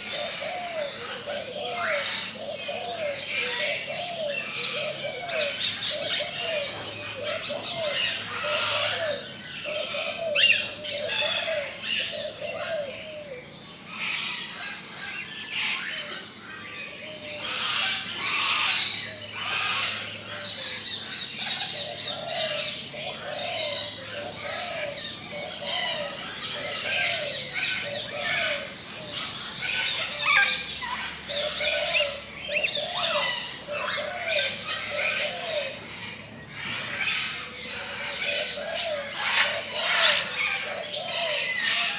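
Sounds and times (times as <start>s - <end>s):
birds chirping and twittering: 0.0s - 41.9s
low repeated bird call: 0.0s - 41.9s.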